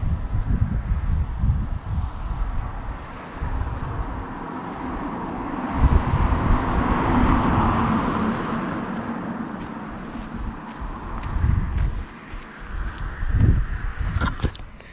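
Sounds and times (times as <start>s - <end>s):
wind rumbling on microphone: 0.0s - 14.9s
car driving past: 2.1s - 14.1s.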